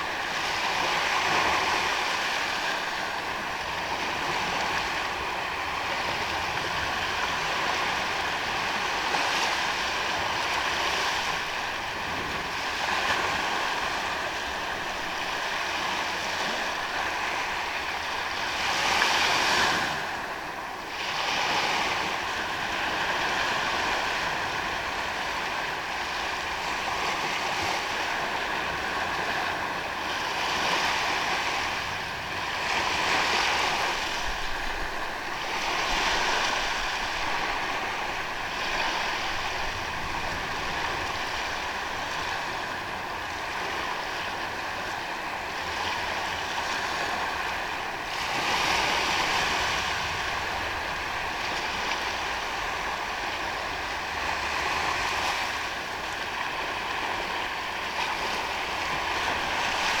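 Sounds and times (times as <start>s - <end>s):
waves washing onto sandy beach: 0.0s - 60.0s.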